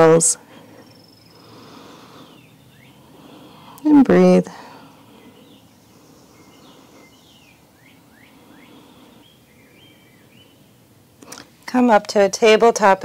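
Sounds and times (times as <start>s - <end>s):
faint birdsong: 0.0s - 13.0s
low steady background noise: 0.0s - 13.0s.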